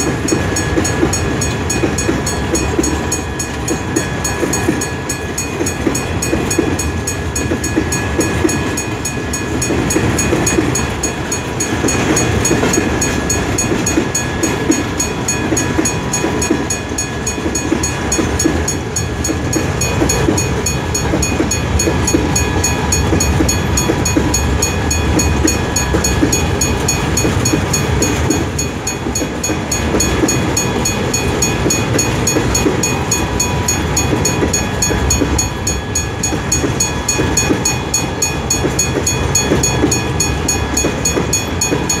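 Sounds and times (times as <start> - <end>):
freight train rumbling past: 0.0 - 42.0
train wheels clattering: 0.0 - 42.0.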